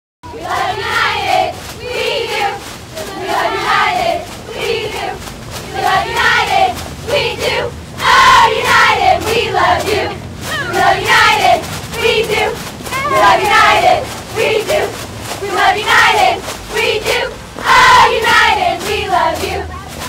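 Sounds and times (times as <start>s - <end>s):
cheerleaders chanting in unison: 0.2s - 20.0s.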